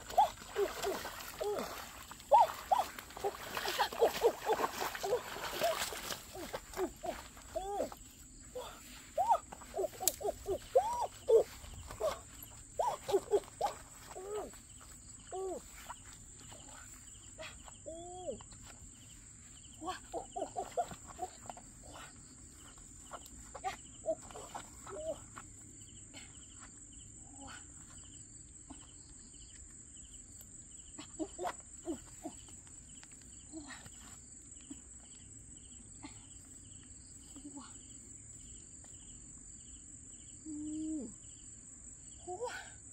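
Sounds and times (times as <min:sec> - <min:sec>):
crickets droning: 0:00.0 - 0:42.9
pulsed cricket chirp: 0:00.0 - 0:42.9.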